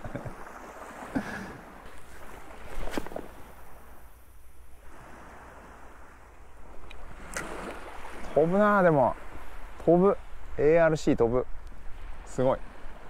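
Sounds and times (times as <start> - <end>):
shallow sea water washing: 0.0 - 11.1.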